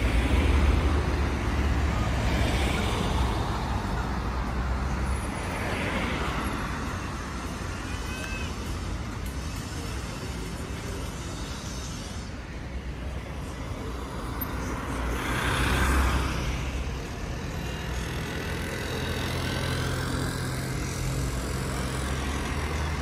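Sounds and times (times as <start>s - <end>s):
rumble of passing cars: 0.0s - 23.0s.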